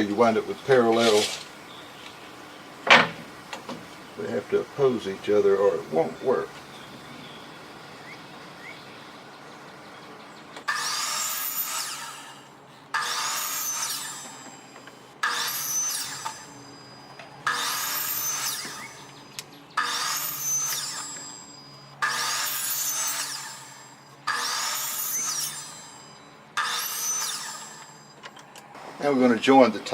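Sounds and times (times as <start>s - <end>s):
power saw cutting wood: 0.0s - 1.6s, 2.9s - 7.4s, 10.6s - 29.9s.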